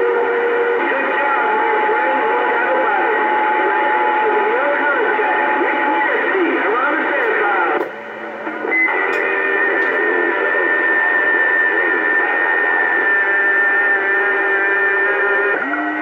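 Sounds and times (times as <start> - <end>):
whistling radio tones: 0.0 - 7.8, 8.5 - 16.0
garbled wavering radio signals: 0.0 - 16.0
radio static hiss: 0.0 - 16.0.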